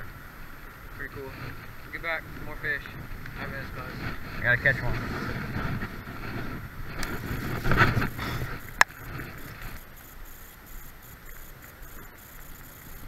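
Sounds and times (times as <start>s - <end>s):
rain: 0.0s - 13.0s
rustling: 0.0s - 13.0s
wind noise on microphone: 0.0s - 13.0s.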